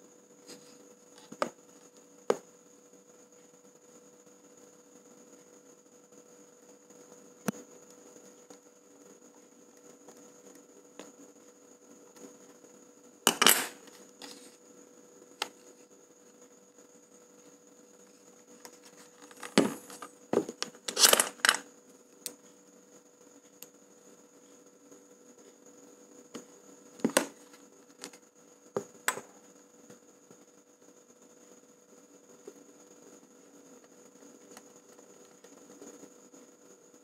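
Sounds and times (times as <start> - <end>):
faint electrical hum: 0.0 - 37.0.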